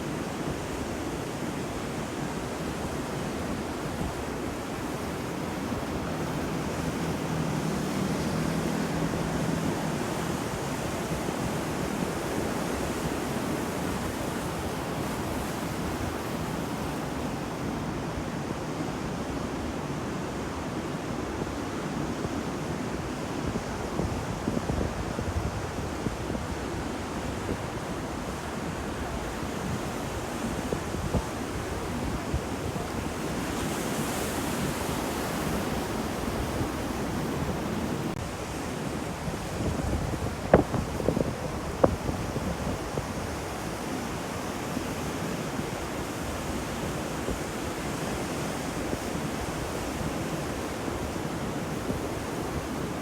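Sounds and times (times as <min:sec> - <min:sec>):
waves breaking on shore: 0:00.0 - 0:53.0
wind: 0:00.0 - 0:53.0.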